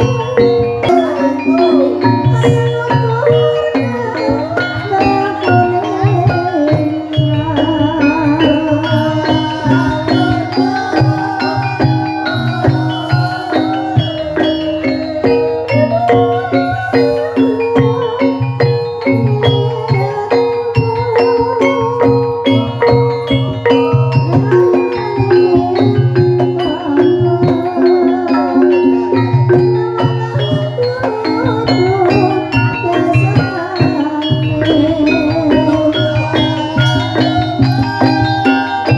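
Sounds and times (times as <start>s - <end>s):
gamelan music: 0.0s - 38.9s
metallophones struck: 0.0s - 38.9s
wavering melody line: 0.0s - 38.9s.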